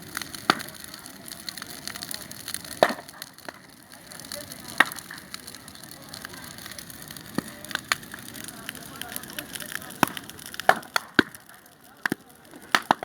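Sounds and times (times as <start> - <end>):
bonfire crackling: 0.0 - 13.0
sharp pops of burning wood: 0.0 - 13.0.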